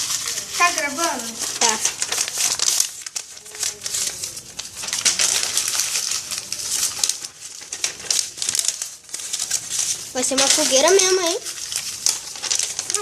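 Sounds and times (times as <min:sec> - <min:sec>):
paper crumpling: 0:00.0 - 0:13.0
paper fire crackling: 0:00.0 - 0:13.0.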